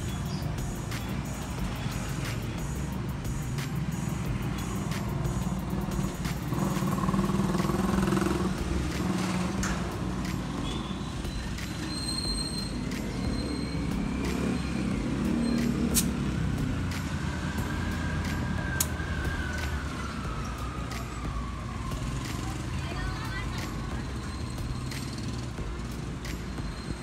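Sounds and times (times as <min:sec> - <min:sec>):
vehicle engines rumbling: 0:00.0 - 0:27.0.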